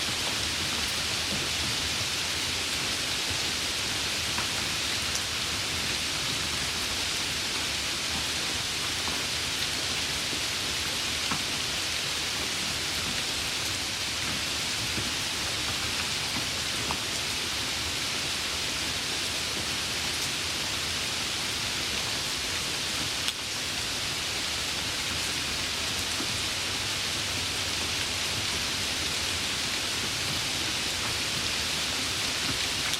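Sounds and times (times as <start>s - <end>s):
light rain hissing: 0.0s - 32.9s.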